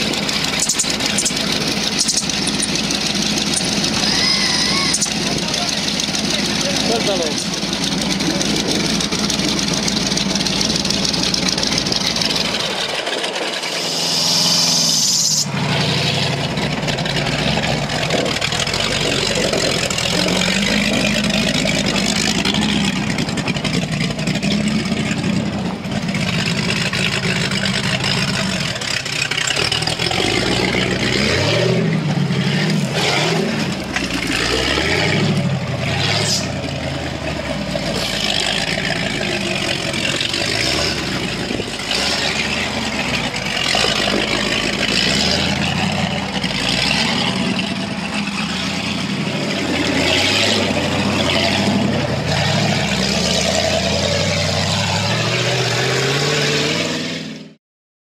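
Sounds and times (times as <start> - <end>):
buggy engine revving: 0.0 - 57.6.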